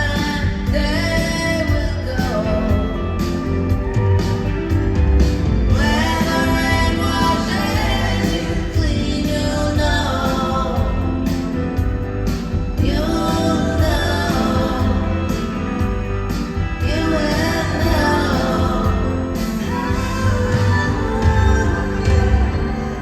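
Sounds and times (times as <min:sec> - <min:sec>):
woman singing: 0:00.0 - 0:03.8, 0:05.6 - 0:11.9, 0:12.7 - 0:23.0
live rock band playing: 0:00.0 - 0:23.0.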